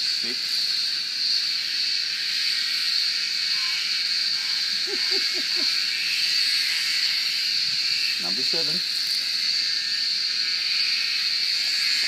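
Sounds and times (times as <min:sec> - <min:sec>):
cicada chorus: 0:00.0 - 0:12.0.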